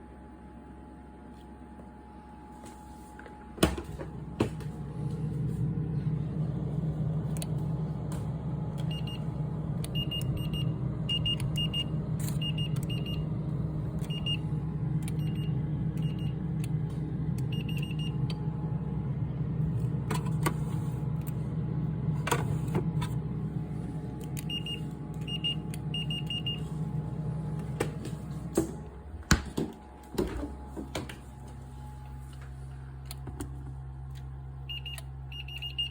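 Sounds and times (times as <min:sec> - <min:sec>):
refrigerator compressor humming: 0:00.0 - 0:35.9.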